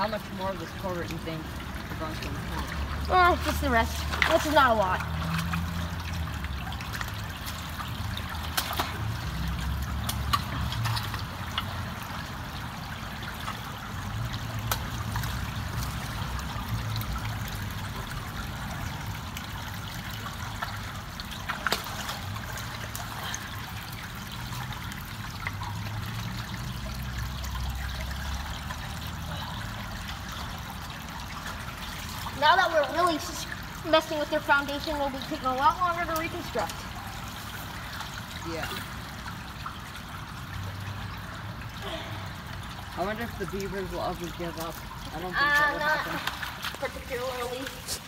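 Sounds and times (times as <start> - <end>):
water trickling into a culvert: 0.0 - 48.0.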